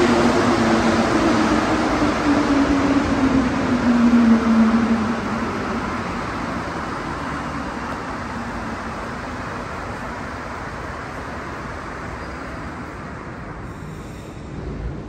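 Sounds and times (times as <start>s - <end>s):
metro train rushing rumble: 0.0s - 15.0s.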